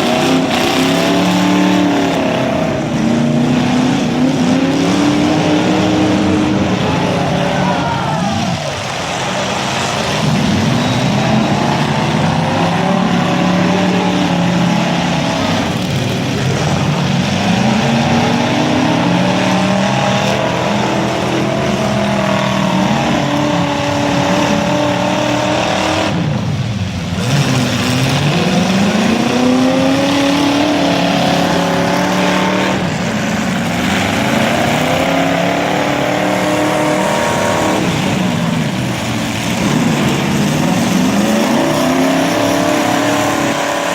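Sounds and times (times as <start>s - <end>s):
car engines revving: 0.0s - 43.9s.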